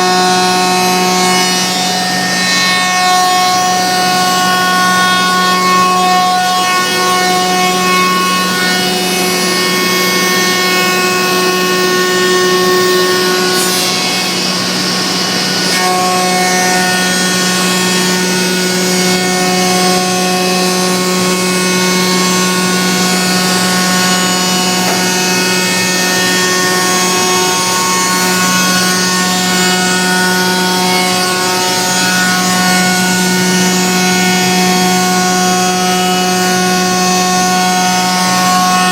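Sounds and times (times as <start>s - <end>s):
router machining wood: 0.0s - 38.9s.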